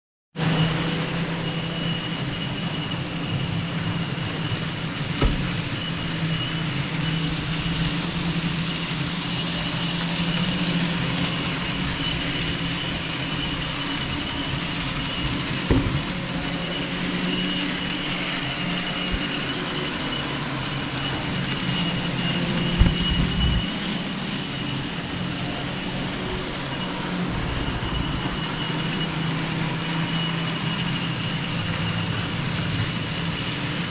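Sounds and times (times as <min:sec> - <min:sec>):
model train motor hum: 0:00.4 - 0:33.9
model train track noise: 0:00.4 - 0:33.9.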